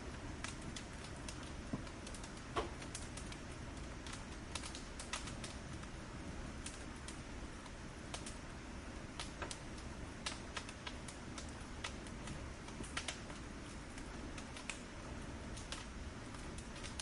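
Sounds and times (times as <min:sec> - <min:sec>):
low rush of burning: 0:00.0 - 0:17.0
wood fire crackling and popping: 0:00.0 - 0:17.0.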